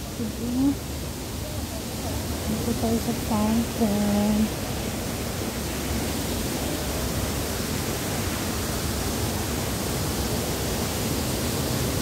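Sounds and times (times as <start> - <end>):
fountain water falling over rocks: 0.0 - 12.0.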